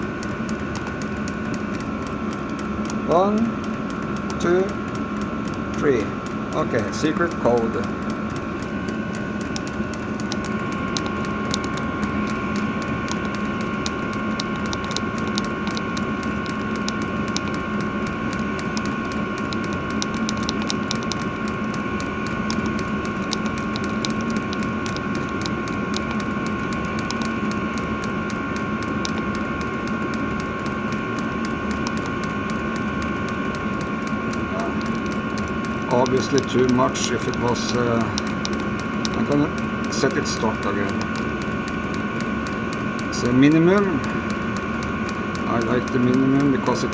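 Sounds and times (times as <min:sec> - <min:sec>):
heater blower fan whine: 0:00.0 - 0:46.9
rapid irregular ticking: 0:00.0 - 0:46.9.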